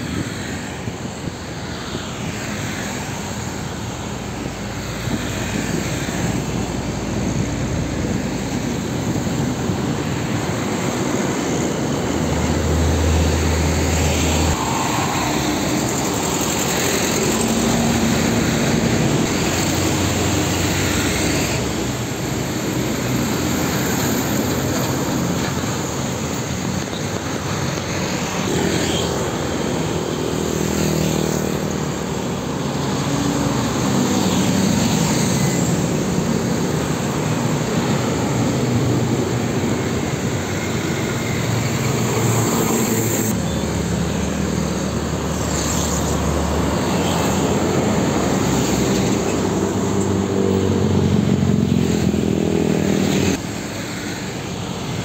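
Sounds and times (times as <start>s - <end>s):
motorcycles passing: 0.0s - 55.0s
trucks passing: 0.0s - 55.0s.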